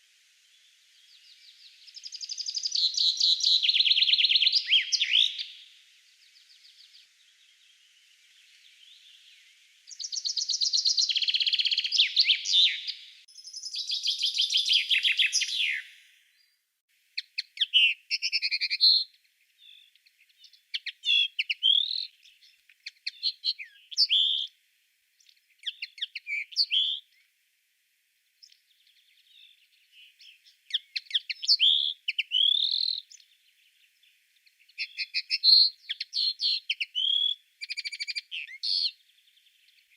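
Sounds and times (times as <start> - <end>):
songbirds singing: 0.0 - 27.4, 28.2 - 39.9.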